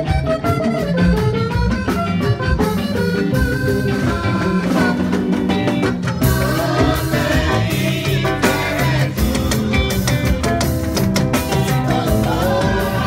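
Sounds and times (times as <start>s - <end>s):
drum kit playing: 0.0s - 13.0s
electric bass guitar: 0.0s - 13.0s.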